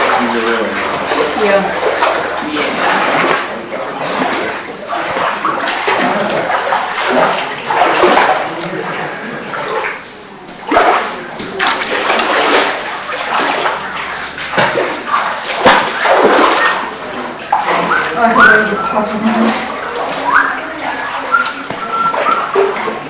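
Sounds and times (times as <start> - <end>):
seawater sloshing among rocks: 0.0 - 23.0.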